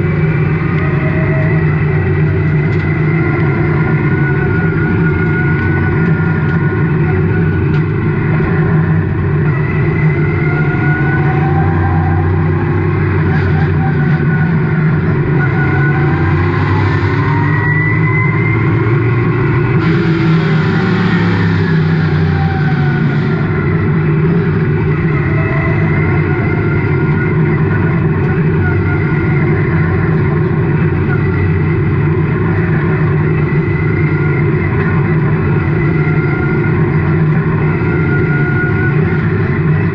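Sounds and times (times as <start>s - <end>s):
passing car engines: 0.0s - 39.9s
race car engine running: 0.0s - 39.9s.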